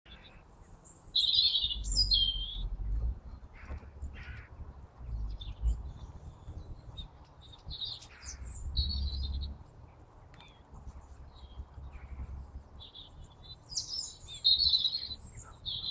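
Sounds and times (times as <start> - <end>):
small birds chirping: 0.1 - 15.9
low rumble: 1.6 - 15.9.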